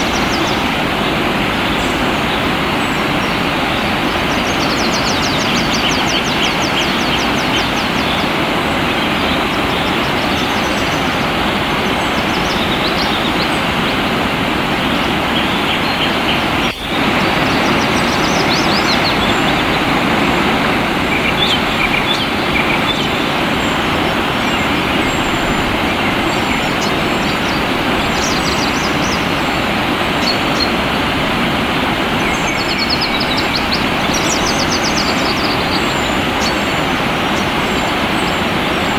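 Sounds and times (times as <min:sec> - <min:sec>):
small birds chirping trills: 0:00.0 - 0:14.2, 0:14.8 - 0:31.2, 0:32.0 - 0:38.9
flowing water rushing: 0:00.0 - 0:38.9.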